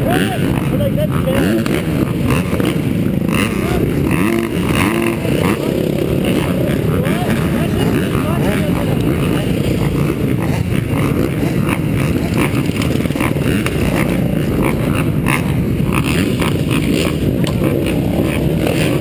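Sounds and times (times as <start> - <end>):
motorbike engines rumbling: 0.0 - 19.0.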